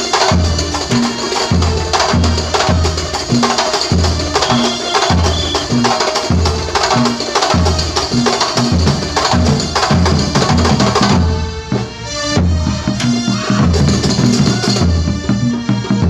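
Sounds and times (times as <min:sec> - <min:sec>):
frame drums playing: 0:00.0 - 0:16.0.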